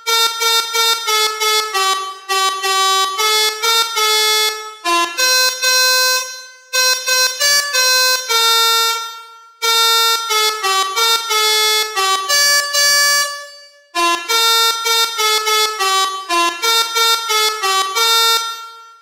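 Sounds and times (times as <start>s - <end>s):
melodica playing a tune: 0.0s - 19.0s.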